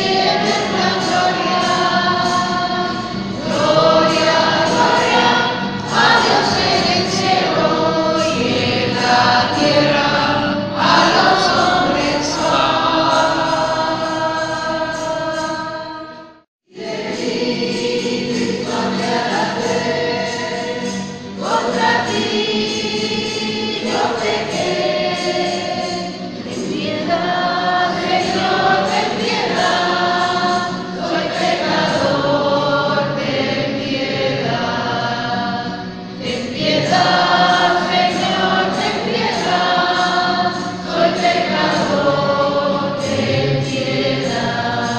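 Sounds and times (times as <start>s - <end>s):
choir singing a hymn: 0.0s - 44.9s.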